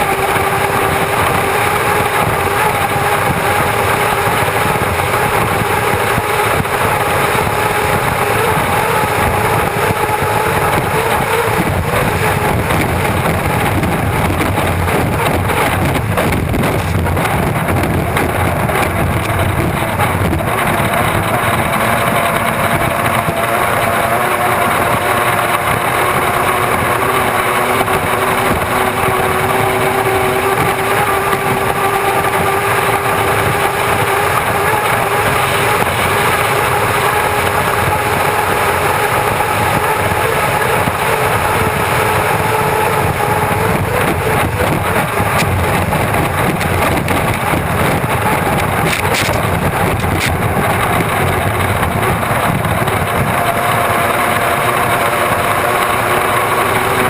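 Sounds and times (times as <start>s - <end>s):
turbine engine rushing and whining: 0.0s - 57.0s.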